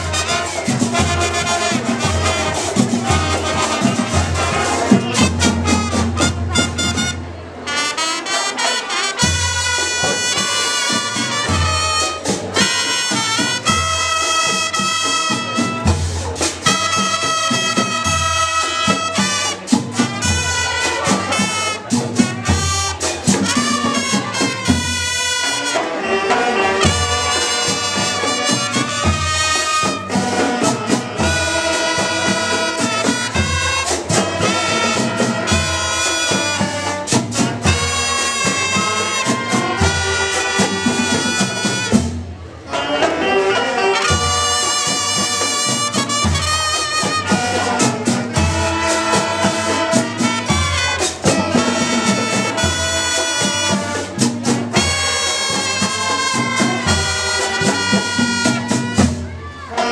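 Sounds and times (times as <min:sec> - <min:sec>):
steady drum beat: 0:00.0 - 0:07.6, 0:09.1 - 0:42.4, 0:43.0 - 0:59.9
brass melody: 0:00.0 - 0:59.9.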